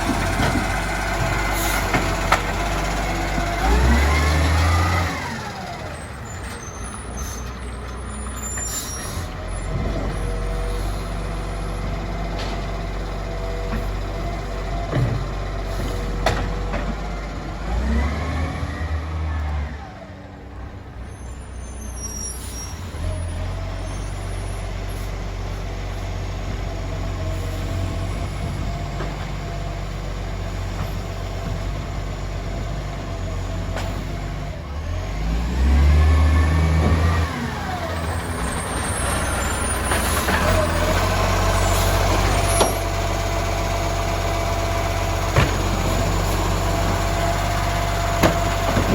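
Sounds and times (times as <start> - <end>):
truck engine idling and revving: 0.0 - 48.9.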